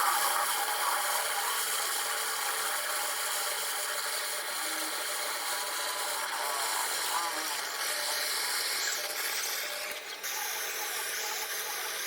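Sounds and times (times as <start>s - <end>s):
wood lathe running: 0.0s - 11.4s.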